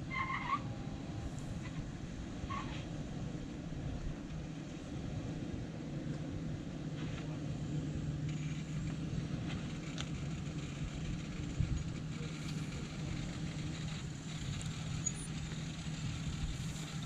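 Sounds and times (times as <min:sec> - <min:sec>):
suv engine at low revs: 0:00.0 - 0:17.0.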